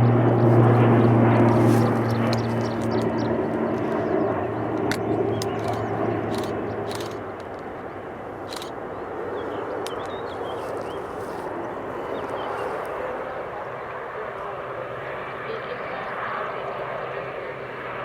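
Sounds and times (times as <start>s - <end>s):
aircraft engine hum: 0.0s - 18.0s.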